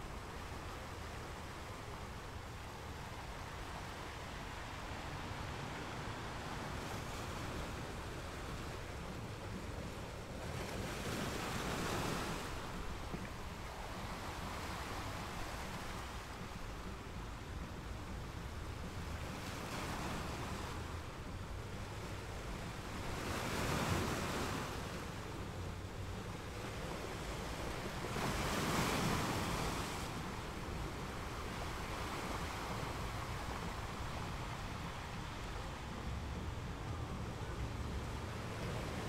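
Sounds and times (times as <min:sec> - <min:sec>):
ocean surf washing on beach: 0:00.0 - 0:39.0
wind rumbling on microphone: 0:00.0 - 0:39.0.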